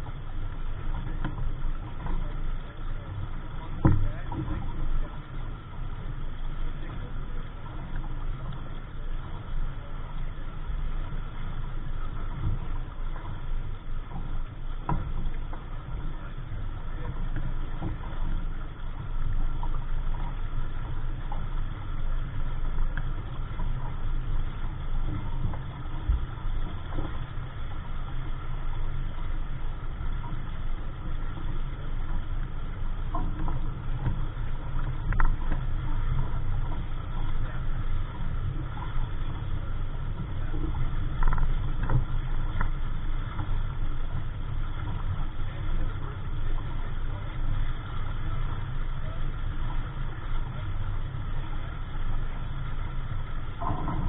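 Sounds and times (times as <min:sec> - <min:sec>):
faint clicks and knocks: 0:00.0 - 0:54.0.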